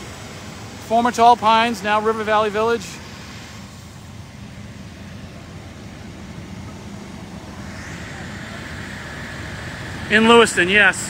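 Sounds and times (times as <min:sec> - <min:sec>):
fire engines diesel rumble: 0:00.0 - 0:11.0
high steady whine: 0:00.0 - 0:11.0.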